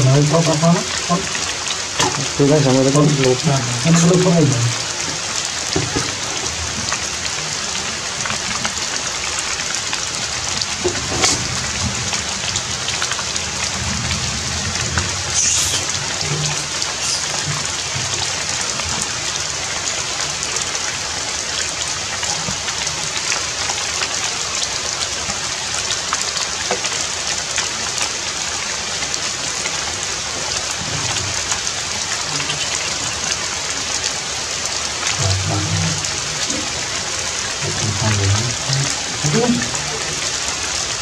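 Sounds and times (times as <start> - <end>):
raindrops ticking on surfaces: 0.0 - 41.0
steady rain falling: 0.0 - 41.0.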